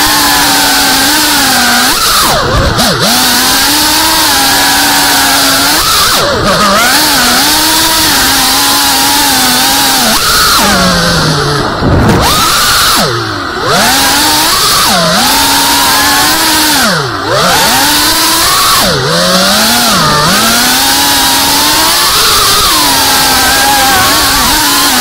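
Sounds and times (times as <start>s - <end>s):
drone motors and propellers whining: 0.0s - 25.0s.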